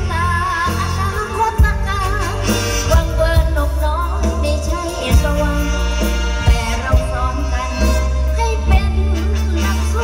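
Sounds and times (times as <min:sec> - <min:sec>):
live band music over pa: 0:00.0 - 0:10.0.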